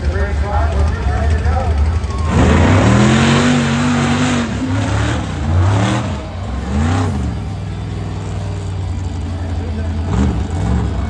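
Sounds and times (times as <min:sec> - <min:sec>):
vehicle engine revving and idling: 0:00.0 - 0:11.0.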